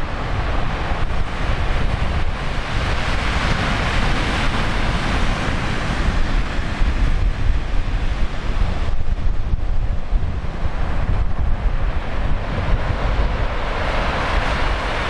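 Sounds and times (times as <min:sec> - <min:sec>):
heavy surf crashing: 0:00.0 - 0:15.0
wind buffeting microphone: 0:00.0 - 0:15.0.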